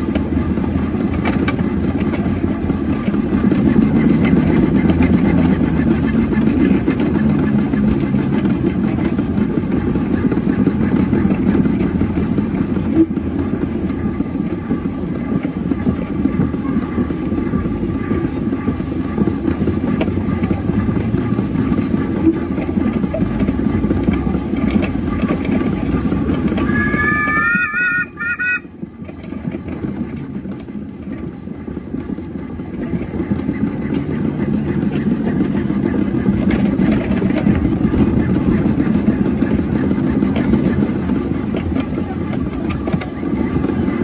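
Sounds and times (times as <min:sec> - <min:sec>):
steam engine rumbling: 0:00.0 - 0:44.0.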